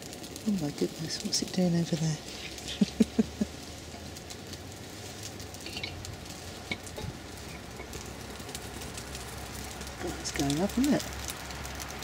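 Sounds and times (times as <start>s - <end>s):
fire hissing and crackling: 0.0s - 12.0s.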